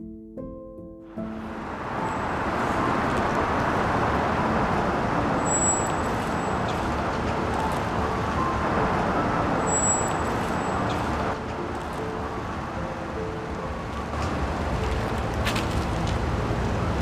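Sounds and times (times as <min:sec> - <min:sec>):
city street traffic: 0:00.4 - 0:17.0.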